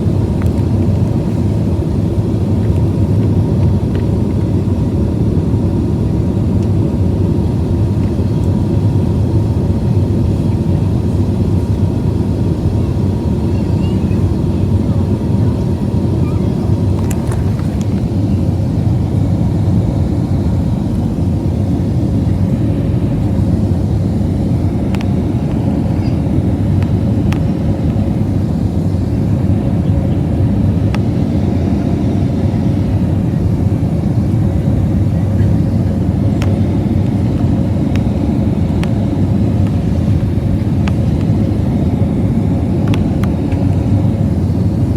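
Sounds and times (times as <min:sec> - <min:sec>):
faint steady hum: 0:00.0 - 0:44.9
jet engines and rushing air: 0:00.0 - 0:44.9.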